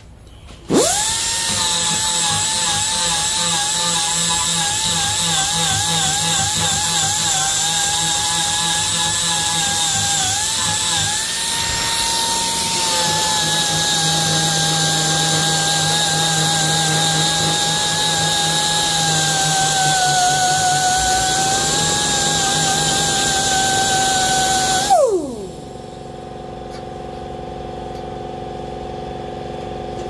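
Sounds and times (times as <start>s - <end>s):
angle grinder sanding steel: 0.7s - 25.9s.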